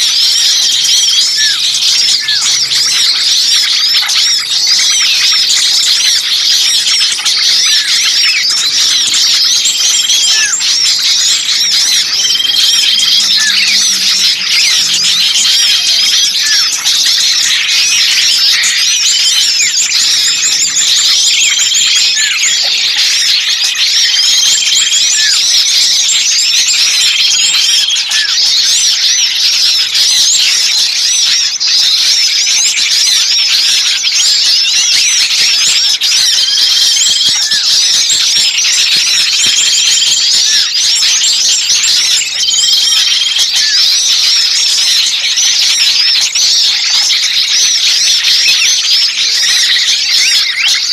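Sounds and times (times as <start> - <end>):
songbirds chattering: 0.0 - 50.9.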